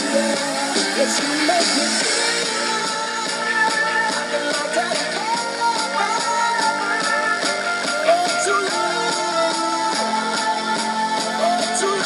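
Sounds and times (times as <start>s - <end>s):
song with instruments and singing: 0.0s - 12.0s.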